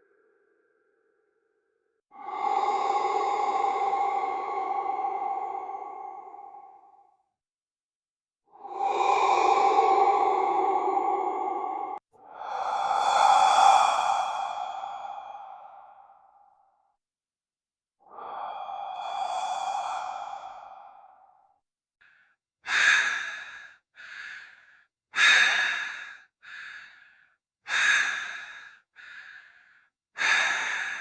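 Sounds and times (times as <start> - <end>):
eerie processed breathing: 2.1 - 7.4, 8.5 - 16.8, 18.0 - 31.0.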